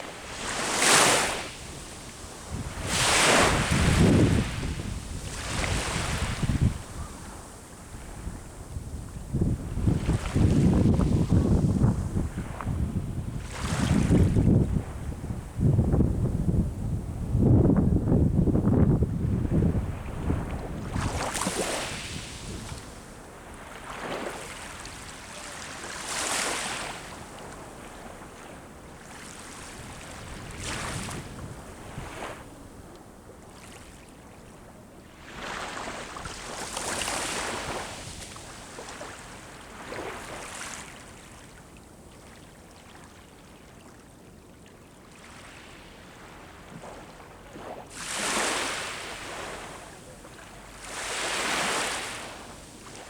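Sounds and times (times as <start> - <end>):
ocean waves breaking on shore: 0.0 - 16.0, 19.4 - 41.7, 45.0 - 53.0.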